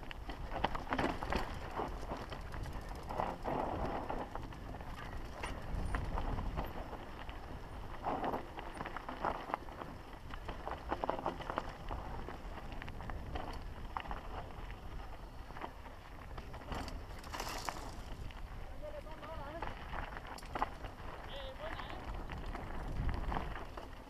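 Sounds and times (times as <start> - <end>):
bike rattling over bumps: 0.0 - 24.0
tyres crunching over gravel: 0.0 - 24.0.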